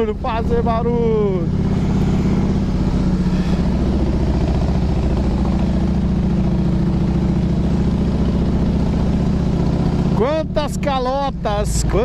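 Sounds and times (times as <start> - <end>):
motorcycle engine climbing: 0.0 - 12.0.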